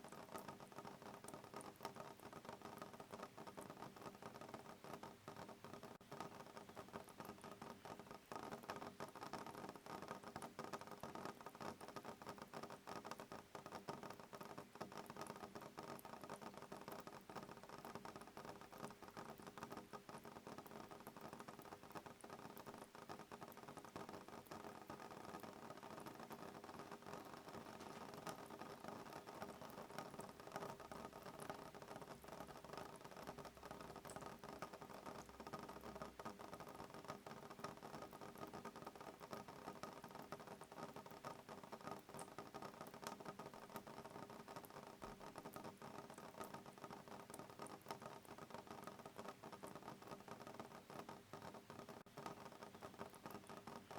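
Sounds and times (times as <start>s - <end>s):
rain pattering on a window: 0.0s - 53.9s.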